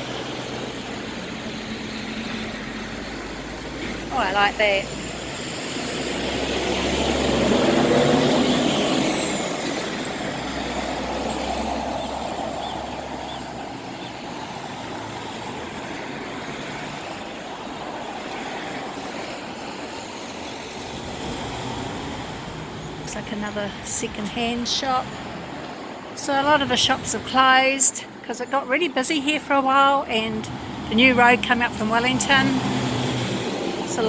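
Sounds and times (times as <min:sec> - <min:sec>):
vehicle passing close by: 0:00.0 - 0:27.1, 0:30.3 - 0:34.0
steady traffic noise: 0:00.0 - 0:34.0.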